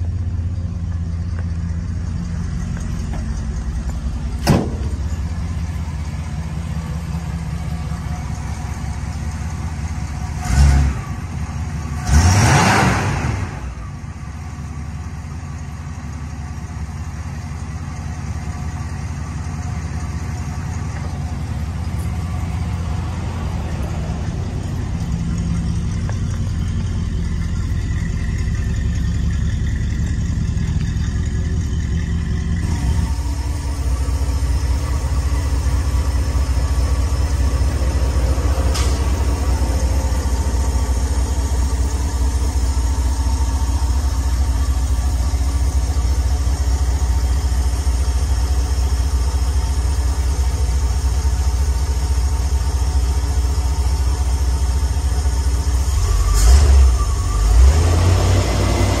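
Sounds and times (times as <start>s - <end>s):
van engine idling: 0.0s - 59.0s.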